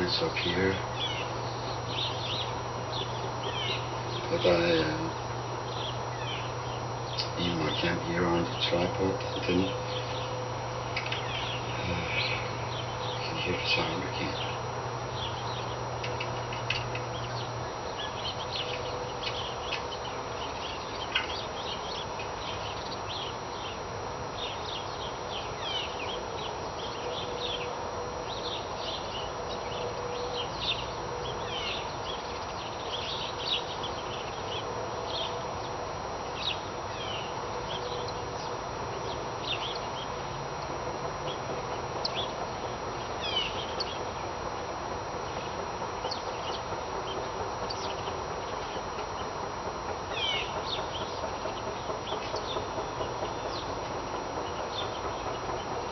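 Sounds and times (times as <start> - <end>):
birds chirping: 0.0 - 55.9
faint steady hum: 0.0 - 55.9.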